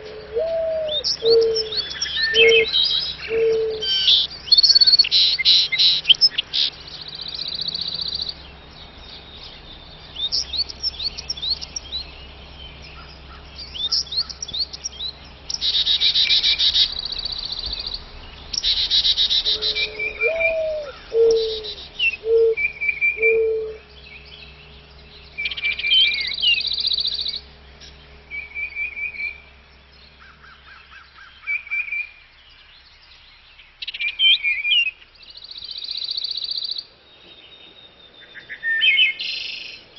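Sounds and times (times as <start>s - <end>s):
low drawn-out bird notes: 0.0s - 39.9s
small birds chirping and trilling: 0.0s - 39.9s.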